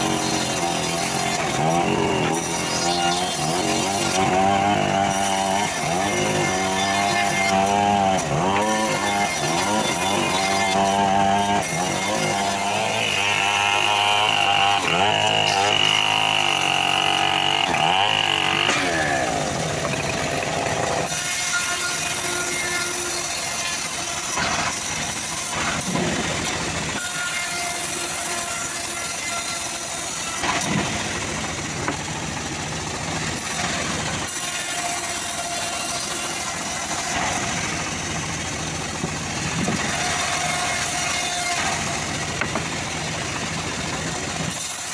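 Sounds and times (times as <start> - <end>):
bandsaw sawmill drone: 0.0 - 44.9.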